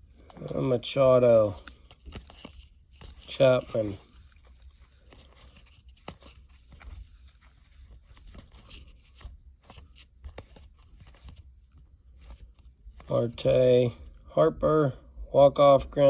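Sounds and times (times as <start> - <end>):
cards clicking and rustling: 0.0 - 13.5.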